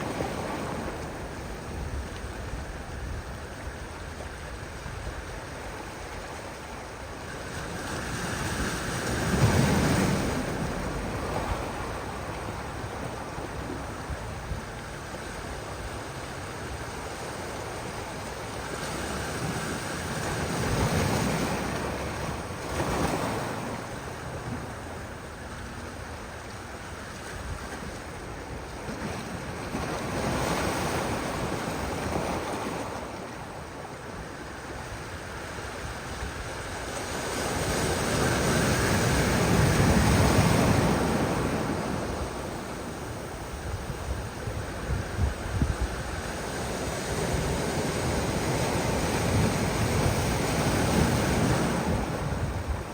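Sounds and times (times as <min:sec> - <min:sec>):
ocean surf breaking: 0:05.9 - 0:25.5, 0:28.7 - 0:52.9.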